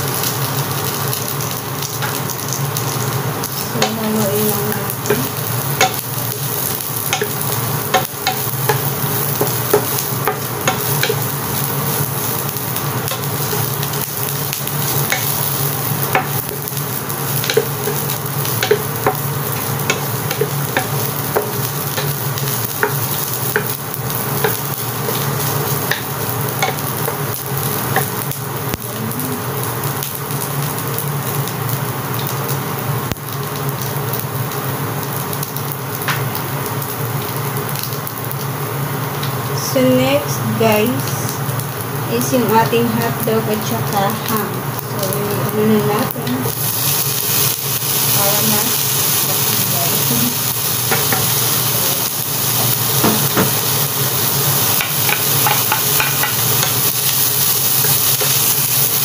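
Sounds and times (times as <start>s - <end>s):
chicken and onion sizzling in oil: 0.0s - 59.0s.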